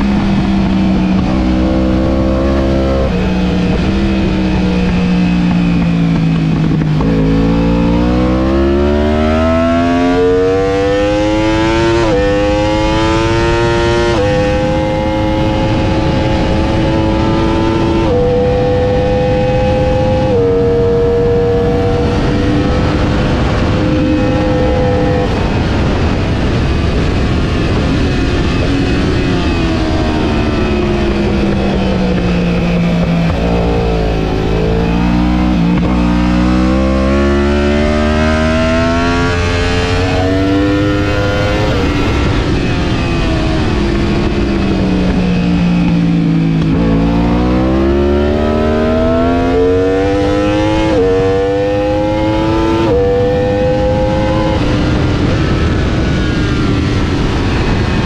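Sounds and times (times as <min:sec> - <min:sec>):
racing motorcycle engine revving: 0:00.0 - 0:58.0
wind rush: 0:00.0 - 0:58.0.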